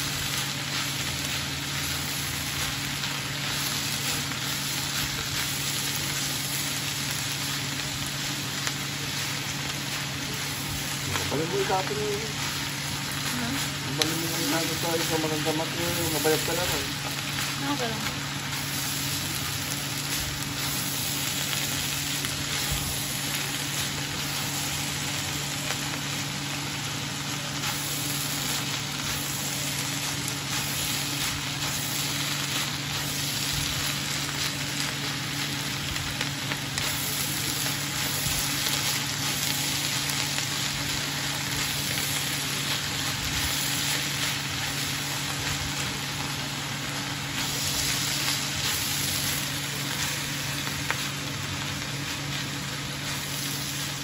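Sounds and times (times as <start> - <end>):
steady low hum: 0.0 - 54.0
vegetables sizzling in a frying pan: 0.0 - 54.0.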